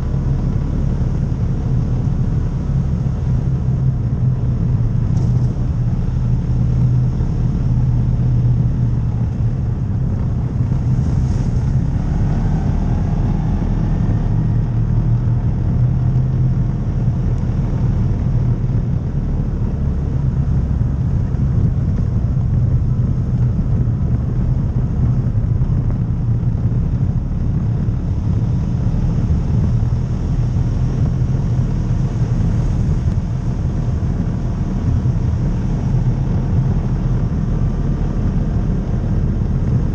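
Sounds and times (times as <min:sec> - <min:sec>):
vehicle engine low drone: 0:00.0 - 0:39.9.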